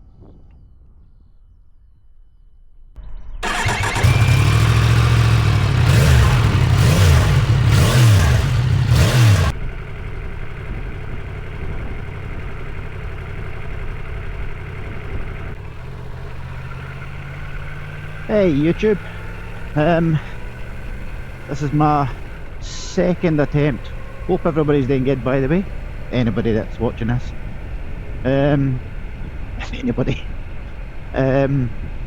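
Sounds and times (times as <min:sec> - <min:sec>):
motorcycle engine revving and idling: 0:03.4 - 0:32.0.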